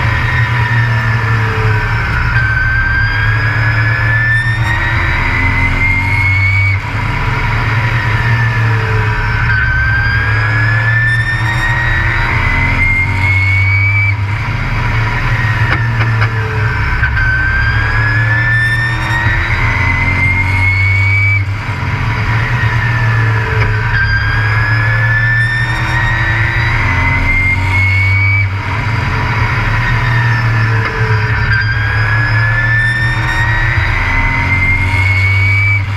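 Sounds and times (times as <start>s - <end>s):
engine whine rising in pitch: 0.0s - 35.9s
race truck engine revving: 0.0s - 35.9s.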